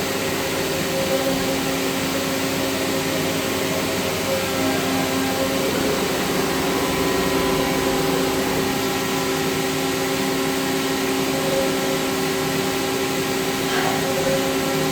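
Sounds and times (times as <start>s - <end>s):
machine running steadily: 0.0s - 14.9s
steady whining tones: 0.0s - 14.9s.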